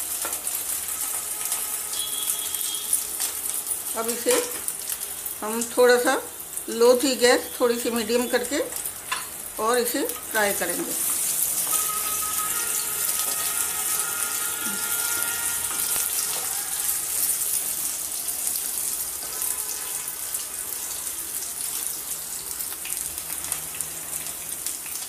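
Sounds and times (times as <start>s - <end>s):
potatoes sizzling in hot oil: 0.0s - 25.0s.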